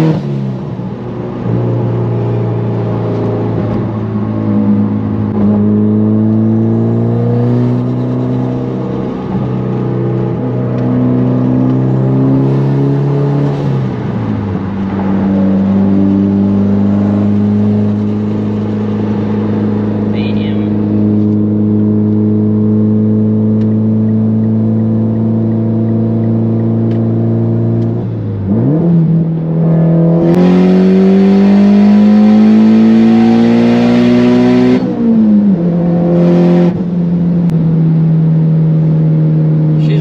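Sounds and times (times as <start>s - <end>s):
car engine droning: 0.0s - 40.0s.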